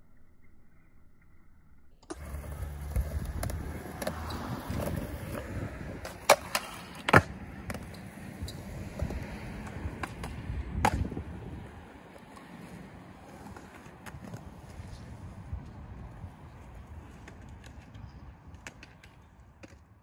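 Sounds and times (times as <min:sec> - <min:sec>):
skateboard wheels rolling on concrete: 0:02.0 - 0:20.0
skateboard clacks: 0:02.1 - 0:20.0.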